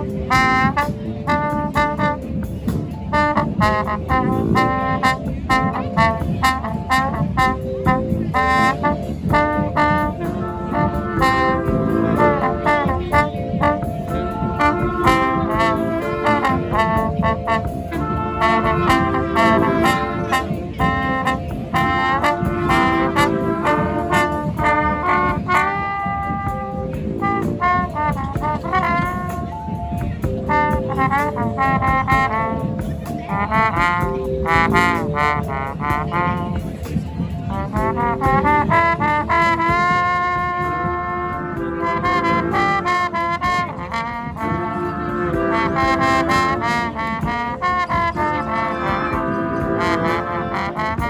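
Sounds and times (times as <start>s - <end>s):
brass band playing: 0.0s - 51.0s
horns playing melody: 0.0s - 51.0s
steady drum beat: 0.0s - 51.0s.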